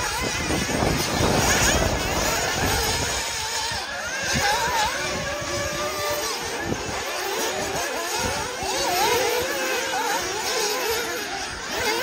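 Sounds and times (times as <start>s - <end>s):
rc buggy engines revving: 0.0s - 12.0s.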